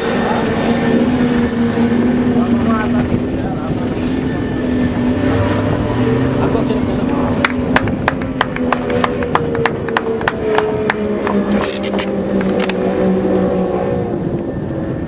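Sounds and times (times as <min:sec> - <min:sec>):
powerboat motor passing: 0:00.0 - 0:15.0.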